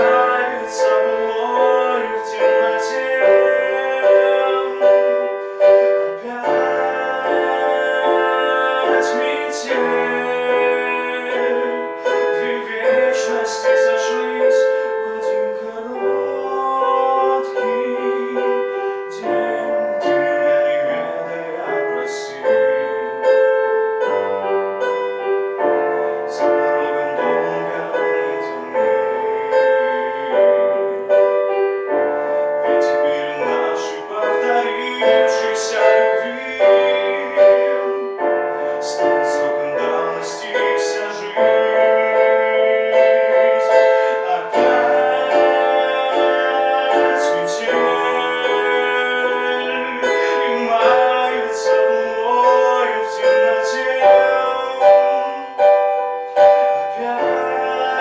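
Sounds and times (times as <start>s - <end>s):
slow piano melody: 0.0s - 58.0s.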